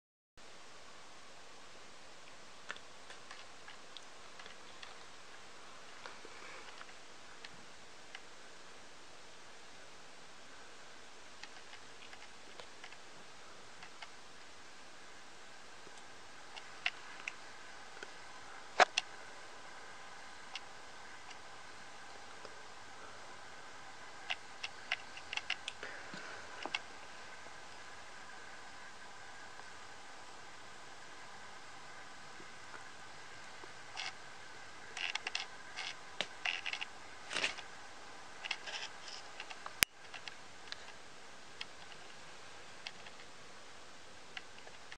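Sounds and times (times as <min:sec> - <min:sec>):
faint steady hiss: 0:00.4 - 0:44.9.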